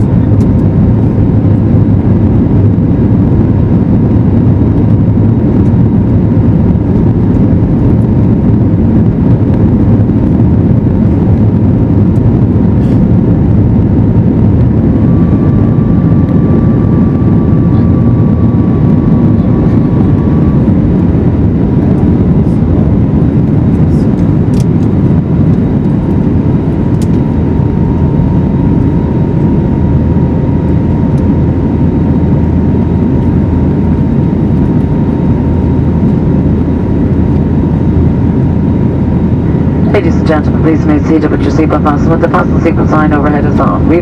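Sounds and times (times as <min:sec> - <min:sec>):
engine and airflow rush in cabin: 0:00.0 - 0:44.0
faint steady whines: 0:00.0 - 0:44.0.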